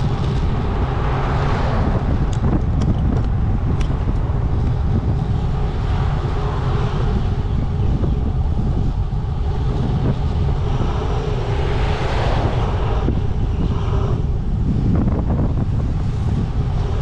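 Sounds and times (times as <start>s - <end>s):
road traffic passing: 0.0s - 17.0s
wind rumbling on microphone: 0.0s - 17.0s.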